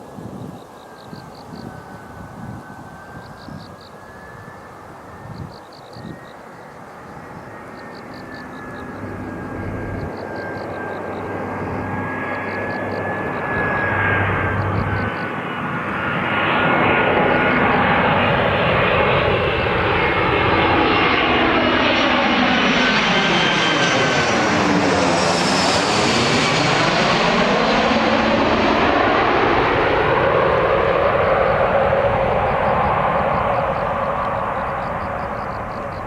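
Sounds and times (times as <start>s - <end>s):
jet airliner engines roaring: 0.0s - 36.0s.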